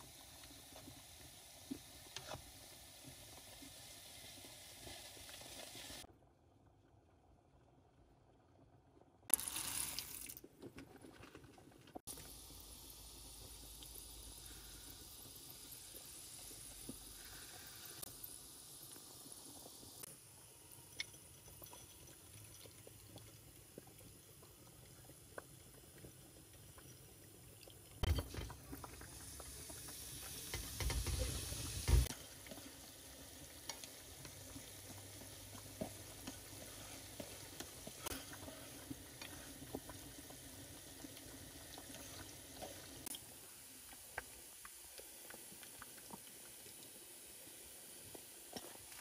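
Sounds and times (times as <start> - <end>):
chillies sizzling in oil: 0.0 - 6.1, 9.3 - 10.5, 12.0 - 49.0.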